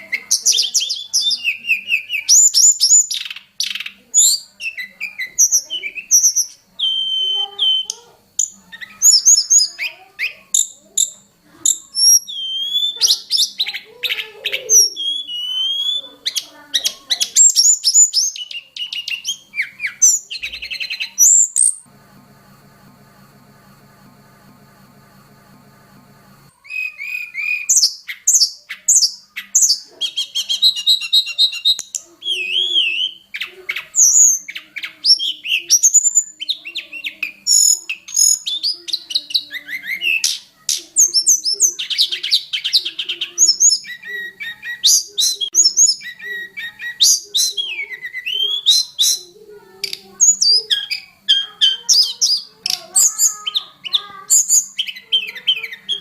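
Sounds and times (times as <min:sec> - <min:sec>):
bird singing chirps and trills: 0:00.0 - 0:21.8, 0:26.6 - 0:56.0.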